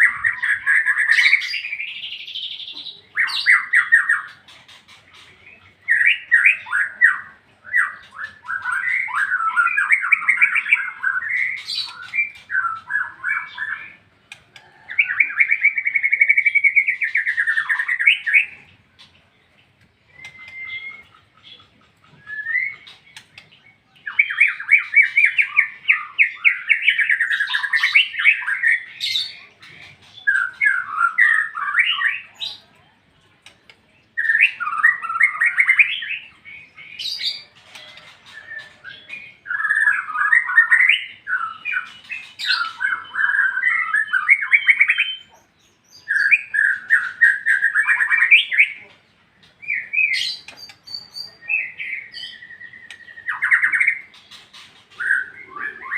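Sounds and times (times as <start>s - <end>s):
bird warbling song: 0.0s - 55.9s.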